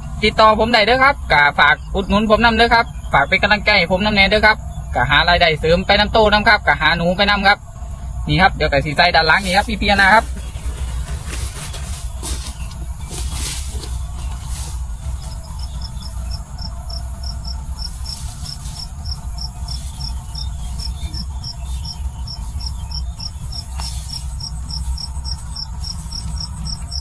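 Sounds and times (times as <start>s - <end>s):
cricket chirping: 0.0s - 27.0s
low rumble: 0.0s - 27.0s.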